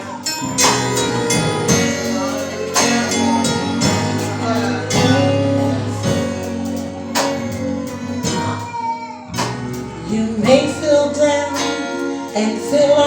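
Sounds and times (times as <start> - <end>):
band music with steady beat: 0.0 - 13.0.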